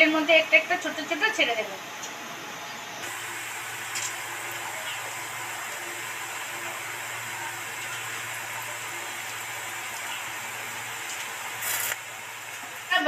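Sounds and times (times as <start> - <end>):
deep-frying sizzle in oil: 0.0 - 13.0.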